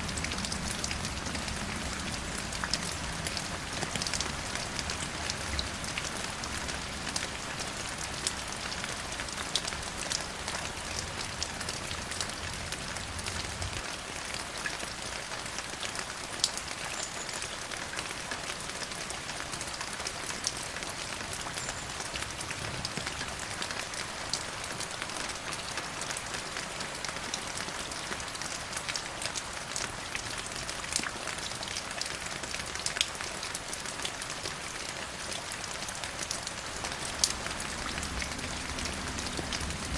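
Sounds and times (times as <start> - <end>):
rain drops ticking on hard surface: 0.0 - 39.9
rain hiss: 0.0 - 39.9.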